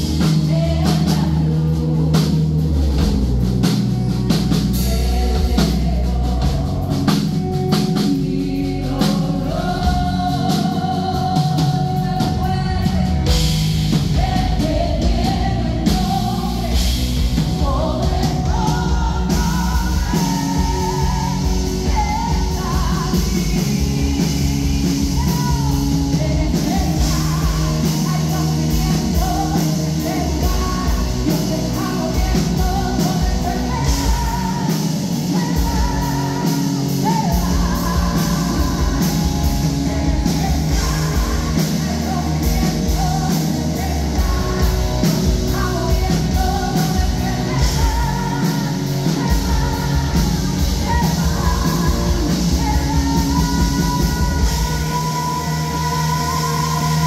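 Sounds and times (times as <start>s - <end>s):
woman singing into microphone: 0.0s - 57.0s
worship music with drum beat: 0.0s - 57.0s.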